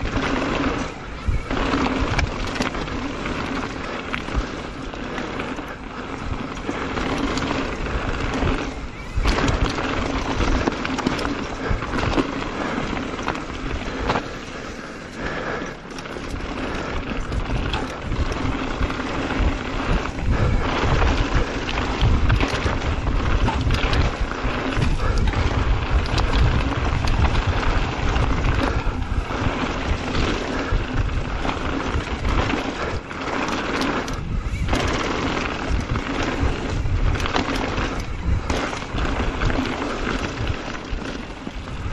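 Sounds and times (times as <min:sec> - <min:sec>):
bike clattering over bumps: 0:00.0 - 0:41.9
tyres rolling over dirt and stones: 0:00.0 - 0:41.9
wind rushing over microphone: 0:00.0 - 0:41.9.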